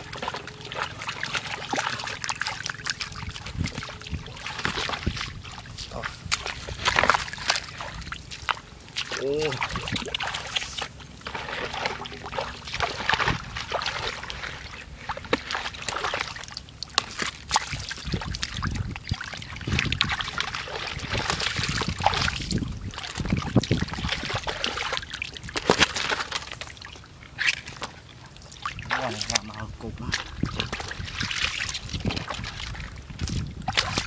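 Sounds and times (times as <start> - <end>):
muddy water sloshing and splashing: 0.0 - 34.0.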